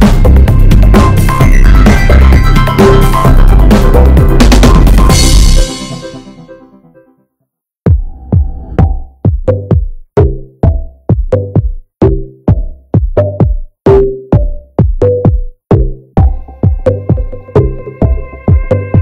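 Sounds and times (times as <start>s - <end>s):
drum machine beat: 0.0s - 6.3s, 7.9s - 19.0s.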